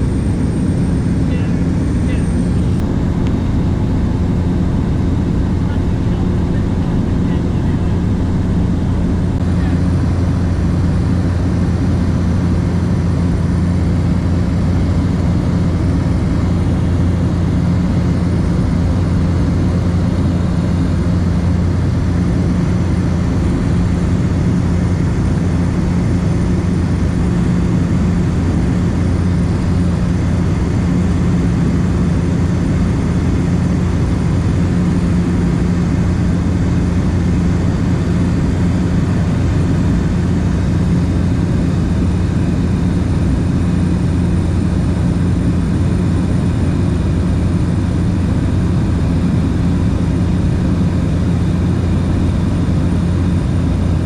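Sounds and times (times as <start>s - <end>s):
propeller aircraft engine drone: 0.0s - 54.0s.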